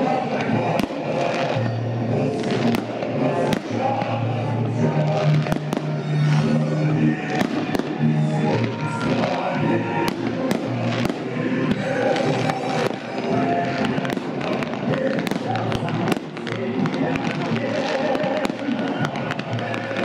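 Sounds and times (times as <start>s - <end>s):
continuous music: 0.0s - 20.0s
fireworks bursting with sharp bangs: 0.0s - 20.0s.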